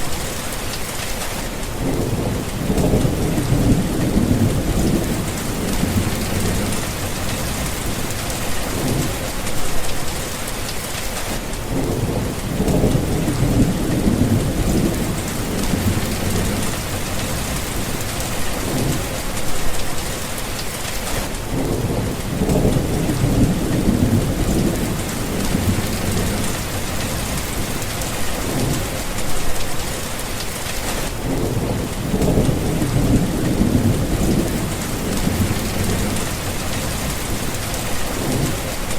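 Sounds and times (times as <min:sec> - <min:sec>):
heavy rain falling: 0:00.0 - 0:38.9
thunder rumbling: 0:01.7 - 0:10.1, 0:11.6 - 0:20.2, 0:21.4 - 0:29.7, 0:31.0 - 0:38.9.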